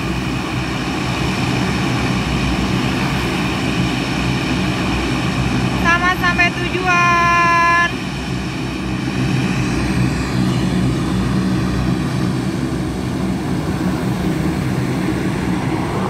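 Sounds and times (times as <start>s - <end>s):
deep propeller drone: 0.0s - 16.0s.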